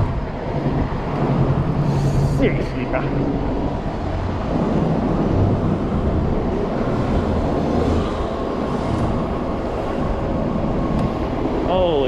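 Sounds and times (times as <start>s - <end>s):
road noise: 0.0s - 12.0s
rushing wind: 0.0s - 12.0s.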